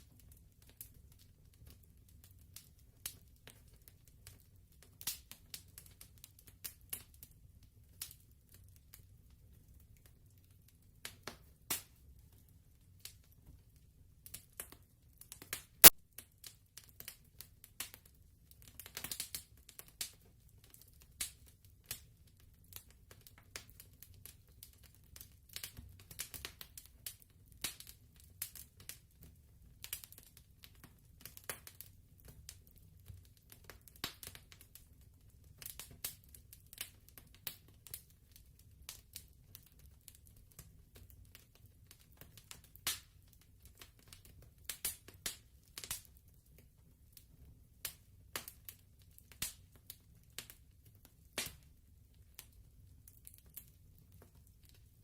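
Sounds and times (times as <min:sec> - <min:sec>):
fireplace crackling: 0:00.0 - 0:55.0.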